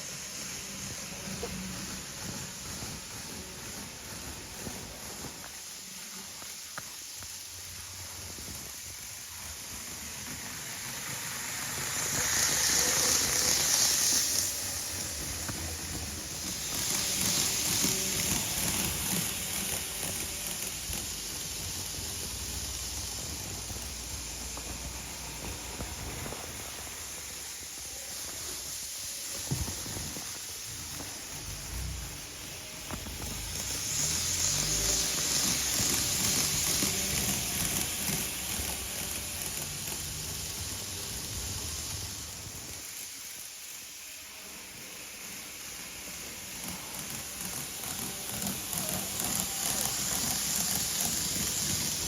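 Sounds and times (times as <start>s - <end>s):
train hissing rushes: 0.0s - 52.0s.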